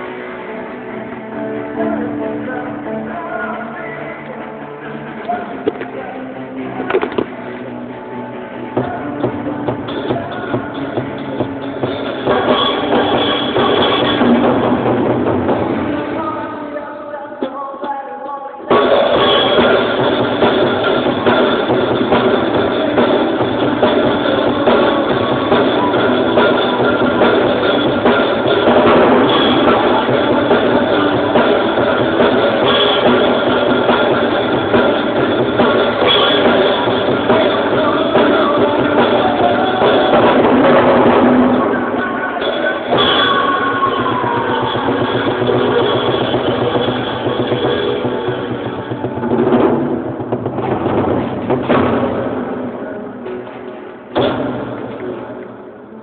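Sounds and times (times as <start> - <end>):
drum kit: 0.0 - 6.2, 6.8 - 7.7, 8.3 - 18.0, 18.7 - 56.0
rock band playing: 0.0 - 16.8, 18.7 - 56.0
strummed guitar chords: 0.0 - 17.1, 18.7 - 56.0.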